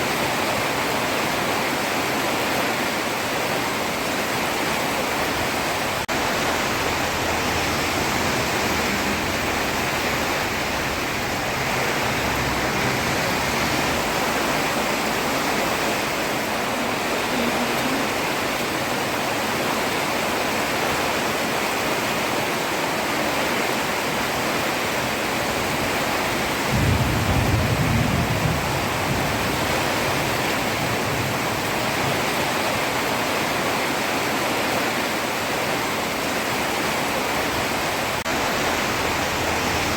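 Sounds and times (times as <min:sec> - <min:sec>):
heavy rain on road: 0:00.0 - 0:39.9.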